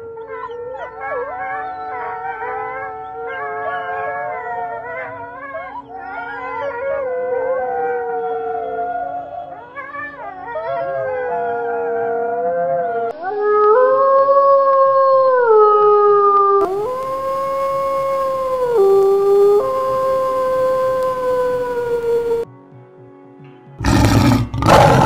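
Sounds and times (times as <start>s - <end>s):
wolves howling: 0.0s - 22.5s, 23.8s - 25.0s.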